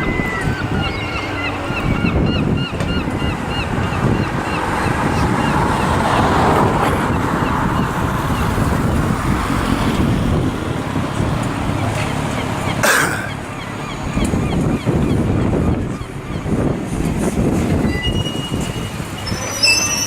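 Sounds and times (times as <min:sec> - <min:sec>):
loud steady rushing noise: 0:00.0 - 0:19.7.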